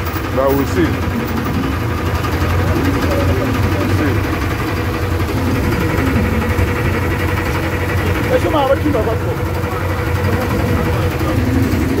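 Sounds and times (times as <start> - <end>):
engine idling: 0.0 - 12.0
faint voices chattering: 0.0 - 12.0.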